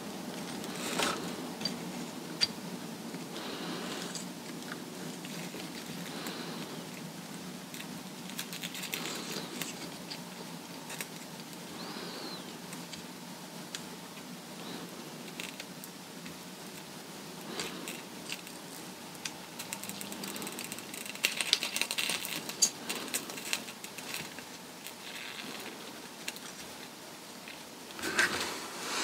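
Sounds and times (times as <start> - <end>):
low steady hum: 0.0 - 29.0
solder crackling and ticking: 0.3 - 28.2.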